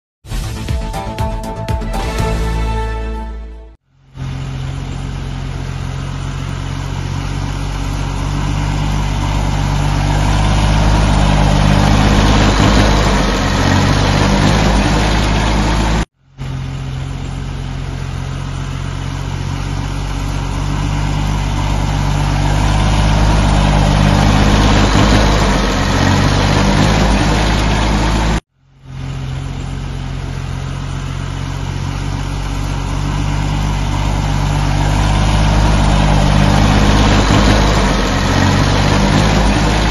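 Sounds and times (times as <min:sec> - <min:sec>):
tractor diesel engine driving past: 0:00.4 - 0:39.9.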